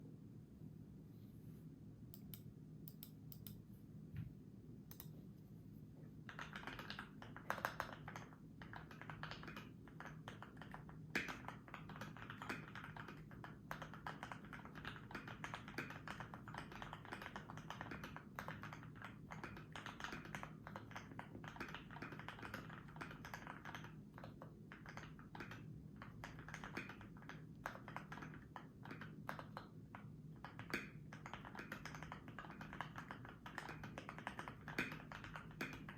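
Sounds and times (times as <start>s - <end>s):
mechanical keyboard typing: 6.3s - 35.9s.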